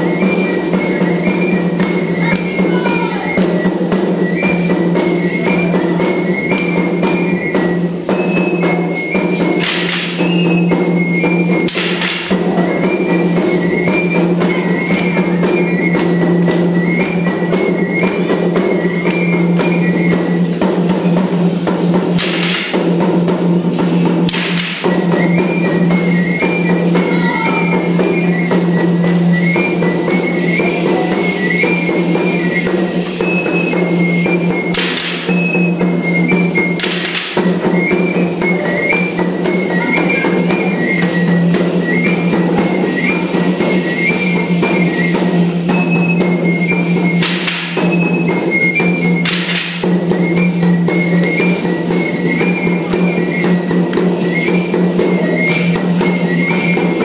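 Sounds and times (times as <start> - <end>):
drumming: 0.0 - 57.0.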